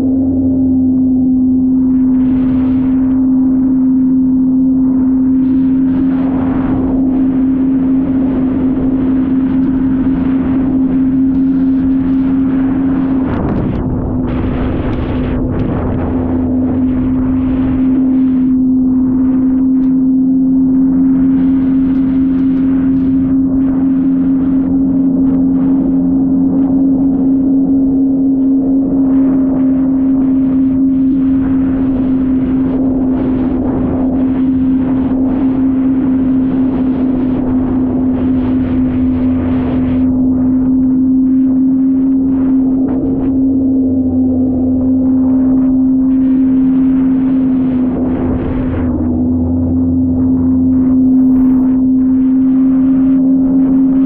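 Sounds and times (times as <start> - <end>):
jet ski engine droning: 0.0 - 54.0
rushing wind and water: 0.0 - 54.0.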